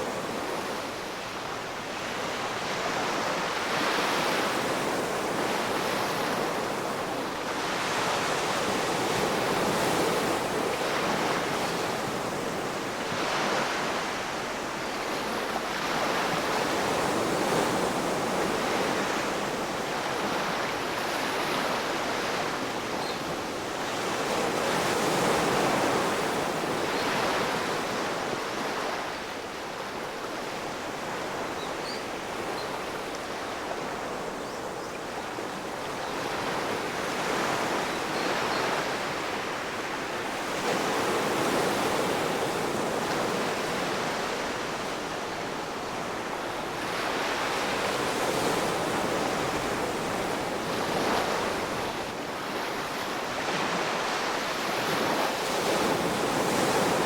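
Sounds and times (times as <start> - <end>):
ocean waves washing on shore: 0.0 - 57.0.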